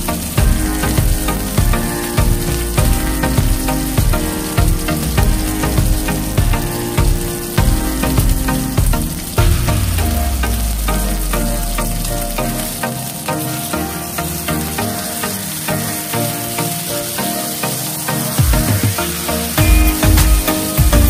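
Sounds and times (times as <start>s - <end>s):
background music with steady beat: 0.0s - 21.0s
steak sizzling in oil: 0.0s - 21.0s.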